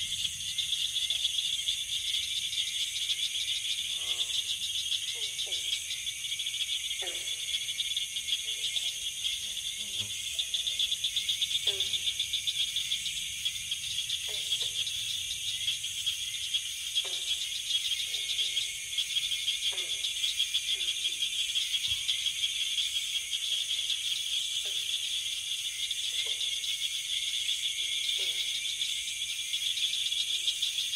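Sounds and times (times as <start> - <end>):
insect trilling: 0.0 - 30.9.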